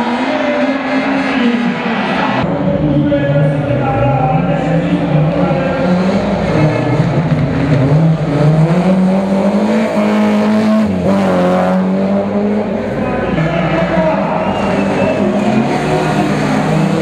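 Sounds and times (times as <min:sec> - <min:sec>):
car engine at high revs: 0:00.0 - 0:02.5, 0:03.5 - 0:17.0.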